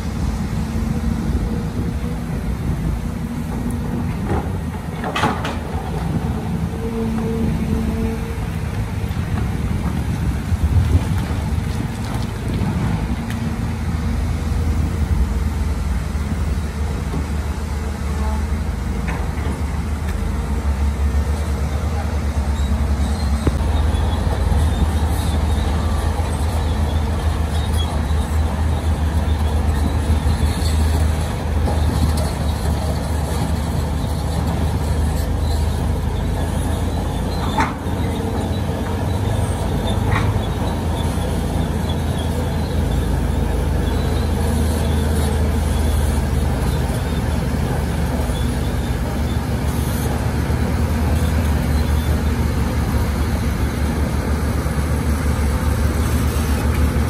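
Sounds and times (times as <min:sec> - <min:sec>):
heavy diesel machinery humming: 0:00.0 - 0:57.0.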